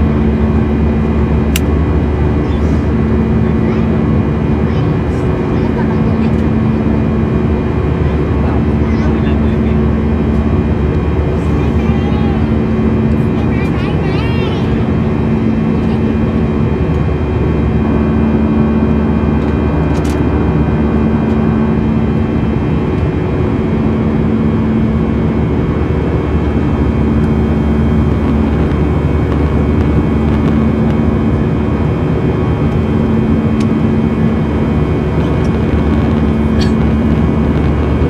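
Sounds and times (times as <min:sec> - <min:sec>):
jet engine and airflow drone: 0:00.0 - 0:38.0.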